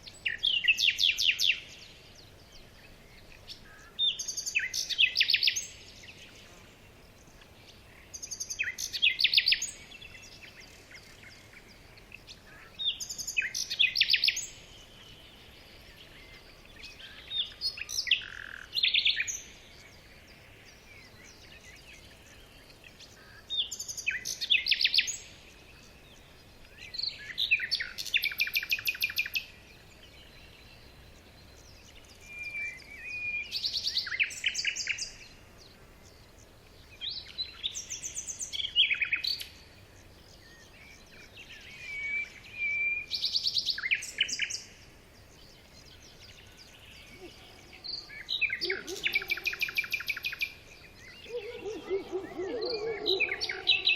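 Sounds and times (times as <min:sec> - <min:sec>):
bird singing trilling phrases: 0:00.0 - 0:53.9.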